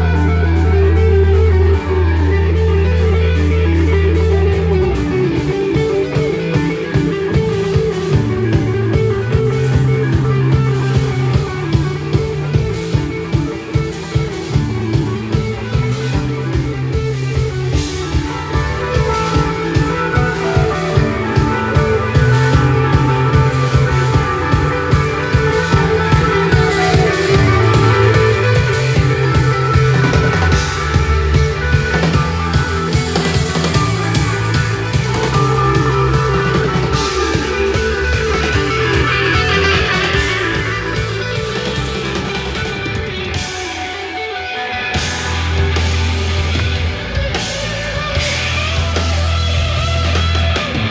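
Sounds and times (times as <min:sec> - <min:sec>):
higher melodic line: 0:00.0 - 0:50.8
rock band playing: 0:00.0 - 0:50.9.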